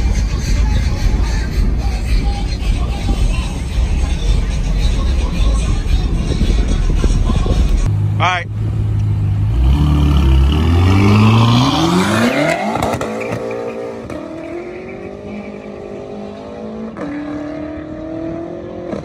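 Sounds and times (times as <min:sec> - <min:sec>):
car engine accelerating hard: 0:00.1 - 0:19.0.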